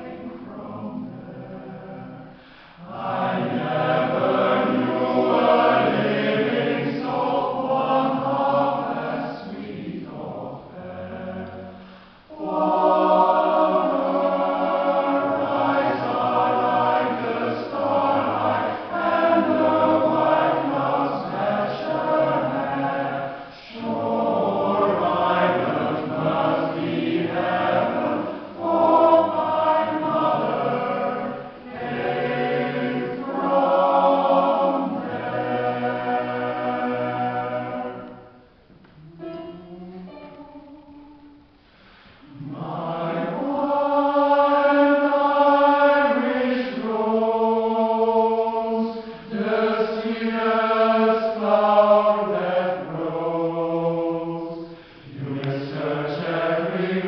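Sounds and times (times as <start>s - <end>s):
mixed choir singing in harmony: 0.0s - 57.0s.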